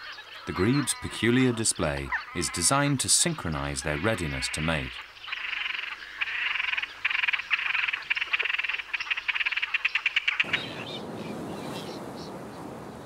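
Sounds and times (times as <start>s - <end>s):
grebes rattling trills: 0.5s - 11.3s.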